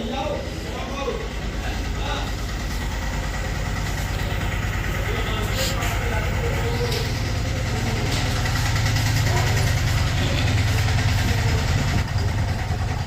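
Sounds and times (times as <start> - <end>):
freezer compressor humming: 0.0 - 13.0.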